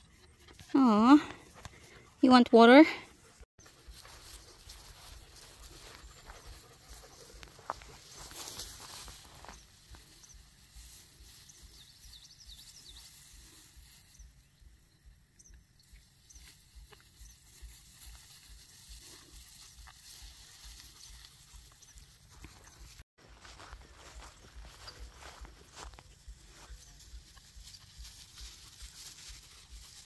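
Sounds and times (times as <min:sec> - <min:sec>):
footsteps rustling through grass: 0:03.1 - 0:14.9, 0:15.8 - 0:30.0.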